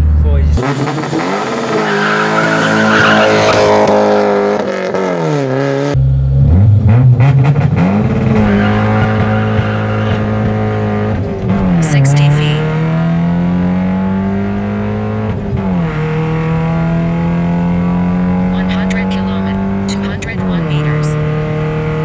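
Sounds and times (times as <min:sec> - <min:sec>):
car engine at full throttle: 0:00.0 - 0:22.0.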